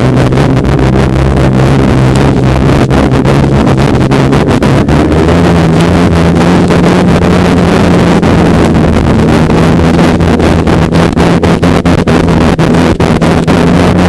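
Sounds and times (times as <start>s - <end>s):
snowmobile engine running: 0.0s - 14.0s
wind buffeting microphone: 0.0s - 14.0s.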